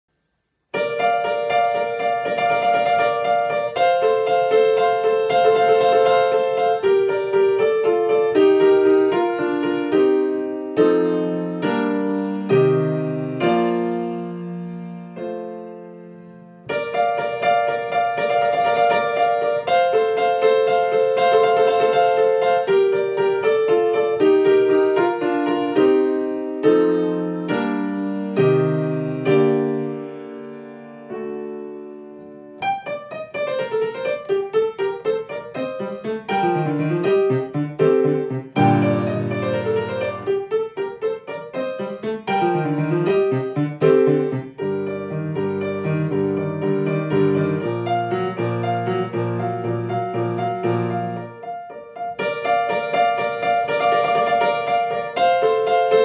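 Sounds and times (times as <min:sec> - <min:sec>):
solo piano piece: 0:00.1 - 0:56.0.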